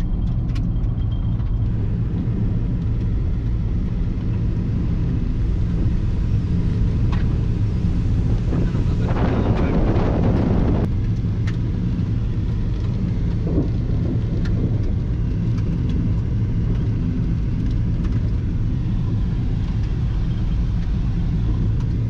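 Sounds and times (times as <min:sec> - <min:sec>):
car interior road noise: 0:00.0 - 0:22.0.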